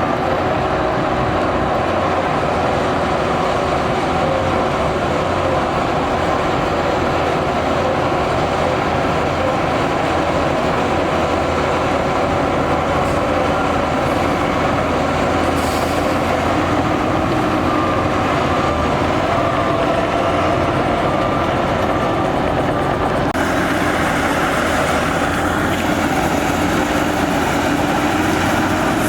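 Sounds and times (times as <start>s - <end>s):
bulldozer engine running: 0.0s - 29.0s
steel tracks squealing and clattering: 2.3s - 29.0s.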